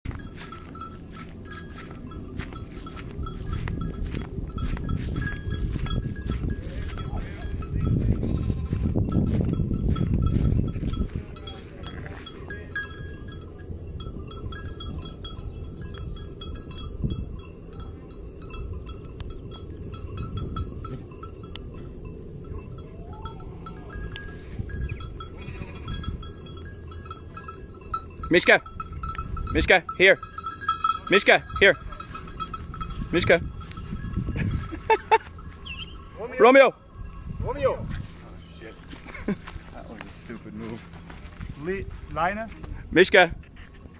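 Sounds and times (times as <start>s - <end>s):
bell-like clinks: 0.1s - 37.8s.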